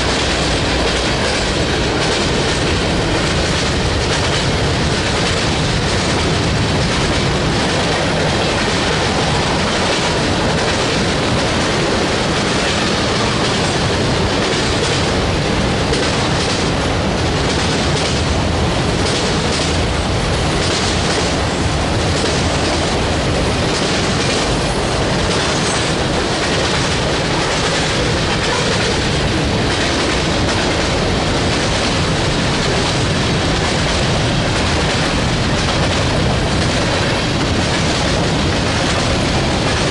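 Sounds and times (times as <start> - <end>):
train cars rolling by: 0.0 - 39.9
wheels clicking over rail joints: 0.0 - 39.9.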